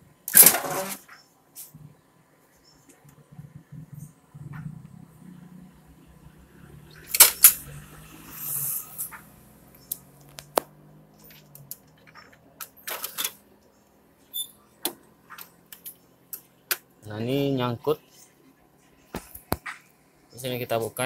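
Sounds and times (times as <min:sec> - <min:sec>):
faint low hum: 0:00.9 - 0:19.1.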